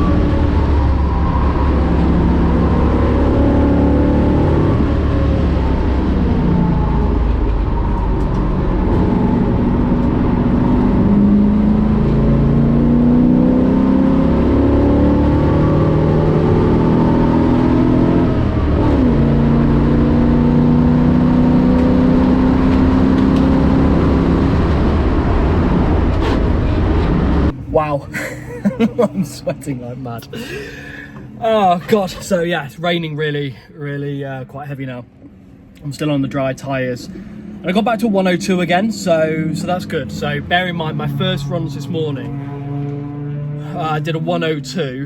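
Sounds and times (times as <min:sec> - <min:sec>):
race car engine revving: 0:00.0 - 0:28.0, 0:36.7 - 0:45.0.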